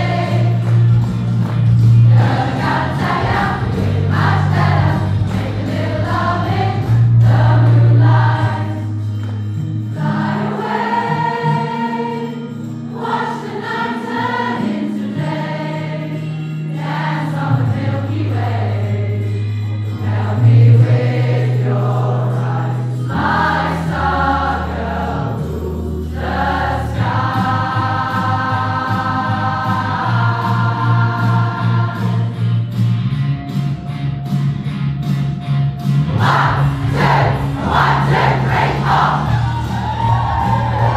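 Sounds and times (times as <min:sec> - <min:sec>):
choir singing in harmony: 0:00.0 - 0:00.8, 0:01.9 - 0:09.0, 0:09.8 - 0:32.6, 0:36.1 - 0:40.9
held bass notes: 0:00.0 - 0:13.2, 0:16.6 - 0:40.9.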